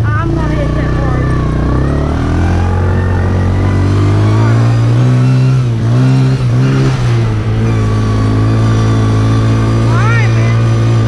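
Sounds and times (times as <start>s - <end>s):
four-wheeler engine running: 0.0s - 11.0s.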